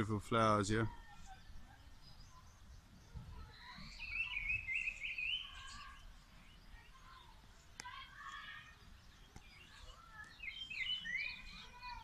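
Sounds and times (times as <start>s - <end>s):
faint low background noise: 0.0s - 12.0s
songbird singing: 0.0s - 12.0s
faint bird calls: 0.8s - 12.0s.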